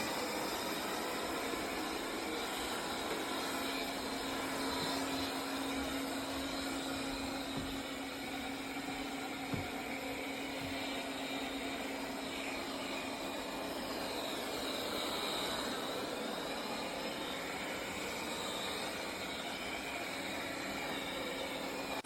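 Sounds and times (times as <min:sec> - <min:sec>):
robot vacuum humming: 0:00.0 - 0:22.0.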